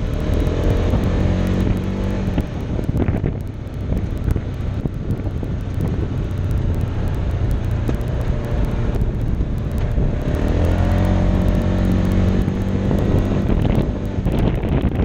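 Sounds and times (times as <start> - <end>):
utility vehicle engine running: 0.0 - 15.0
wind buffeting microphone: 0.0 - 15.0.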